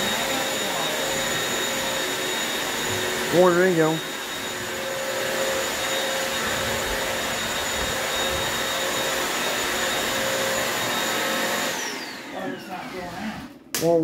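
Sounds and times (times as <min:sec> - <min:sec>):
floor cleaner motor whining: 0:00.0 - 0:13.7.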